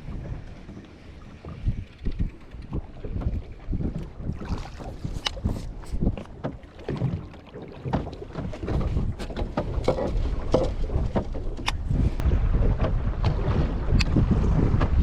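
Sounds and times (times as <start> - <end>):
water splashing against hull: 0.0 - 15.0
wind buffeting the microphone: 0.0 - 15.0.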